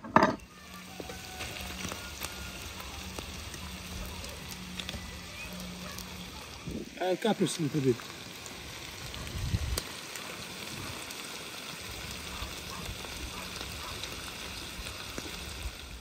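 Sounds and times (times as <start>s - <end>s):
frying pan sizzling: 0.0s - 16.0s.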